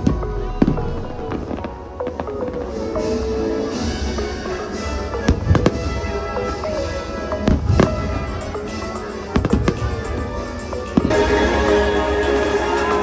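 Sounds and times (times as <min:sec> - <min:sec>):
fireworks bangs: 0:00.0 - 0:13.0
music soundtrack: 0:00.0 - 0:13.0.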